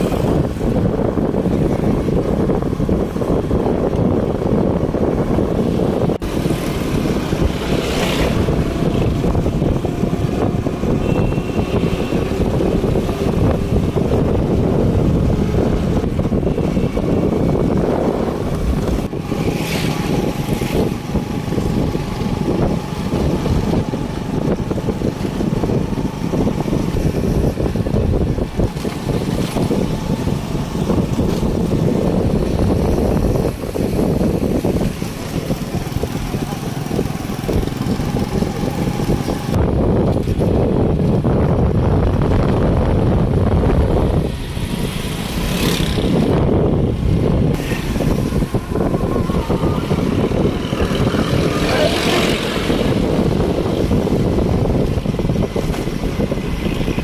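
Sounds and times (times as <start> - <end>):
vehicle road noise: 0.0 - 57.0
wind on microphone: 0.0 - 57.0.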